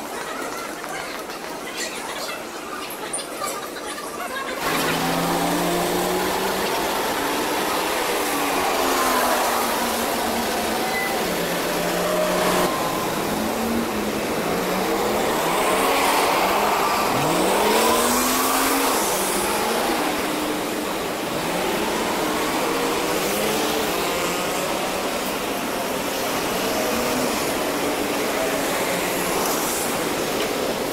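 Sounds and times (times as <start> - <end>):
street traffic noise: 0.0 - 30.9
bus engine accelerating: 4.5 - 30.9.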